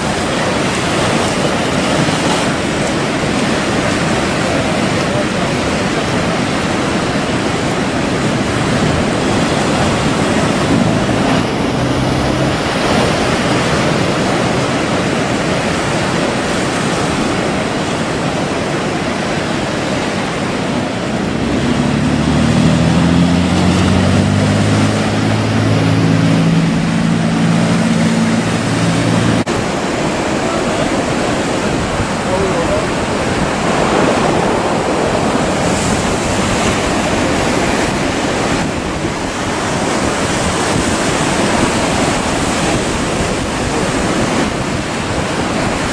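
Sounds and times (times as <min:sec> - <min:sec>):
boat engine humming: 0:00.0 - 0:45.9
heavy surf and breaking waves: 0:00.0 - 0:45.9.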